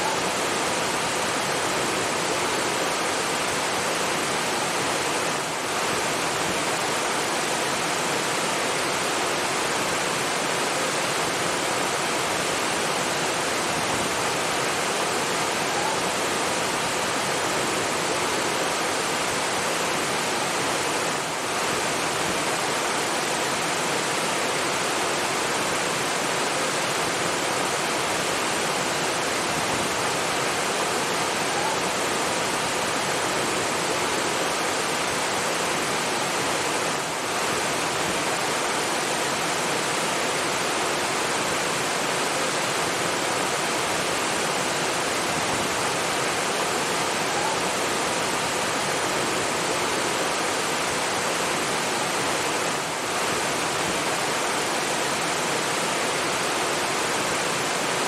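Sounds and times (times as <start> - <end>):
rushing water hiss: 0.0 - 58.0.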